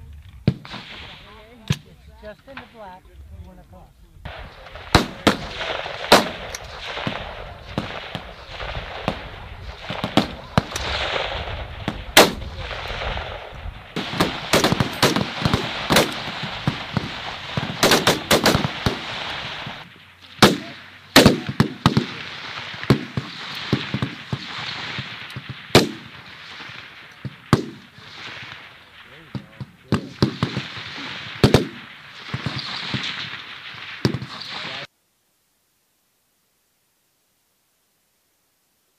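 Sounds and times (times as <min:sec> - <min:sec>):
rifle shots: 0:00.4 - 0:01.9, 0:04.3 - 0:34.9.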